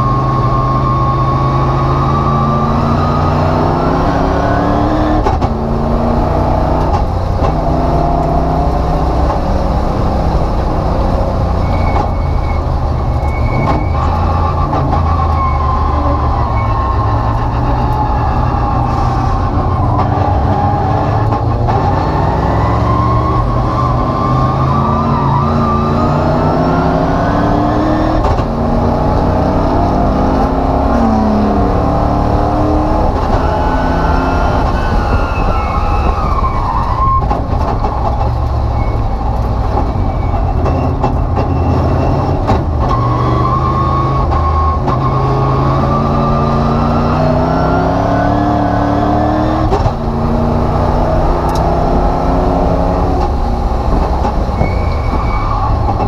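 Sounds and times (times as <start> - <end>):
race car engine revving: 0.0 - 56.0
road and wind noise: 0.0 - 56.0.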